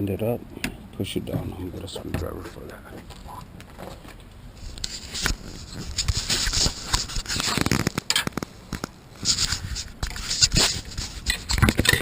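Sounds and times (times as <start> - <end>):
rustling and scraping: 1.3 - 12.0.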